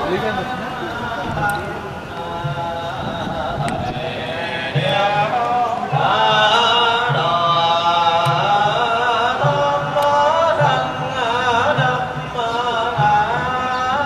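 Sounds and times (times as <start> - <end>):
monks chanting: 0.0 - 14.0.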